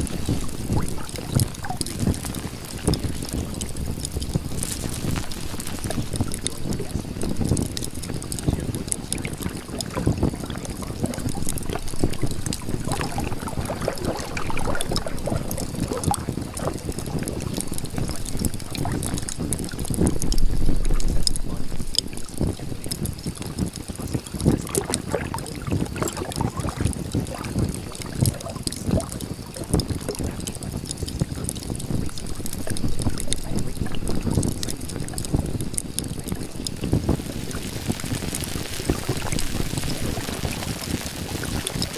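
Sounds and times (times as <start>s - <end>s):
steady wind-like rush: 0.0s - 41.9s
water splashing and sloshing: 0.0s - 41.9s.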